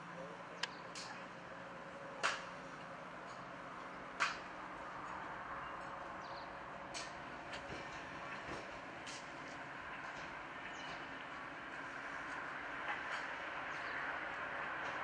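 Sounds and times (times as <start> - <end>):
train rolling along track: 0.0 - 15.0.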